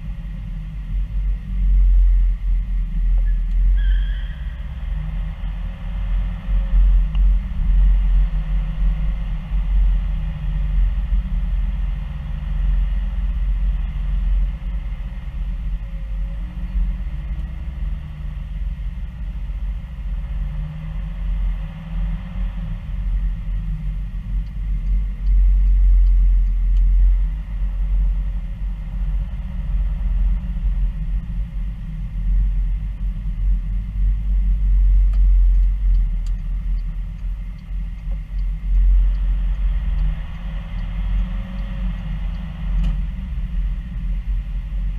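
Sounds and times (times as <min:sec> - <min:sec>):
car engine and tyres rumbling: 0:00.0 - 0:44.9.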